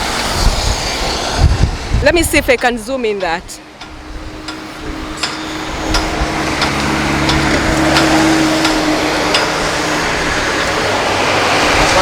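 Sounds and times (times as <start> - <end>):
road traffic passing: 0.0 - 12.0
vehicle engine humming: 0.0 - 12.0.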